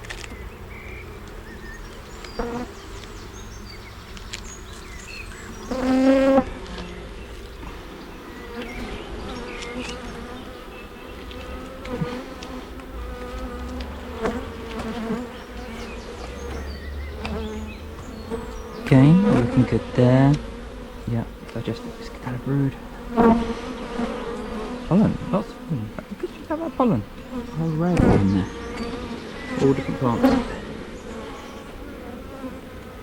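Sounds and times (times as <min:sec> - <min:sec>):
bee buzzing past microphone: 0:00.0 - 0:33.0
bees buzzing around hive: 0:00.0 - 0:33.0.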